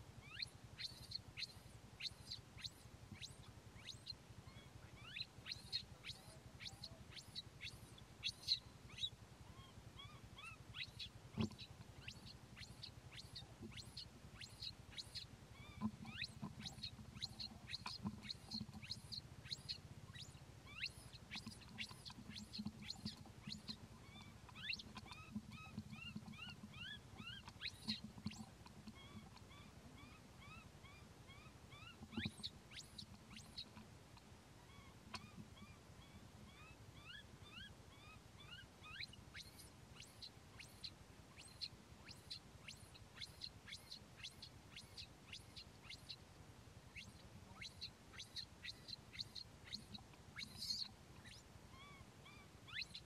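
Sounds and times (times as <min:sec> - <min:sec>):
baby monkey squeaking: 0:00.2 - 0:33.8, 0:34.7 - 0:46.2, 0:46.9 - 0:53.0.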